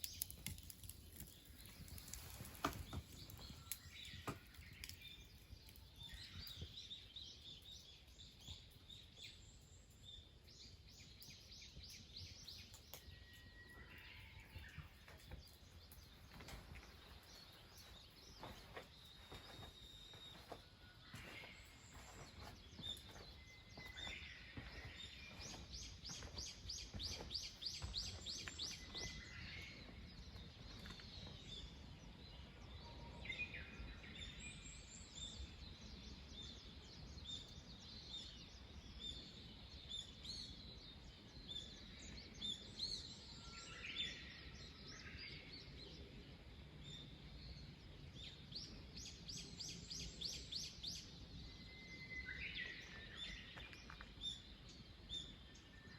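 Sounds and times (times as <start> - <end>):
faint birds singing: 0.0 - 55.9.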